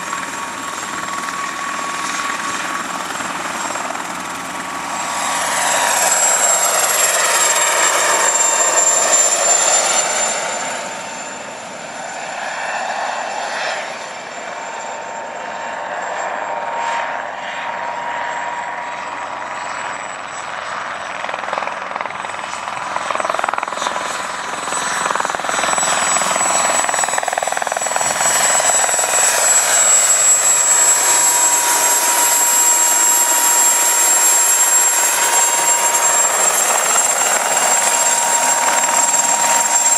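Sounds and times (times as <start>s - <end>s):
helicopter flying with high whine: 0.0s - 39.9s.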